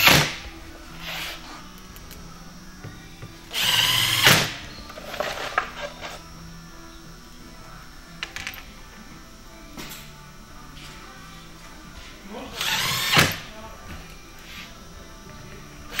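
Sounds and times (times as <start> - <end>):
cordless driver whining: 0.0 - 10.6, 12.5 - 16.0.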